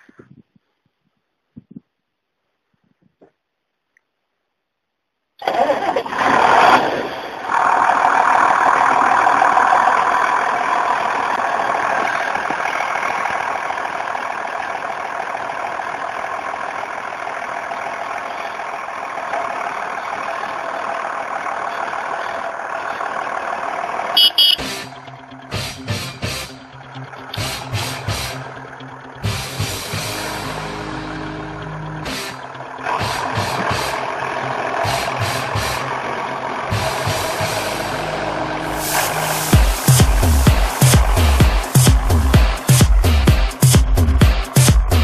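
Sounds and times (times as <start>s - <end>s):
tractor engine running: 5.4s - 45.0s.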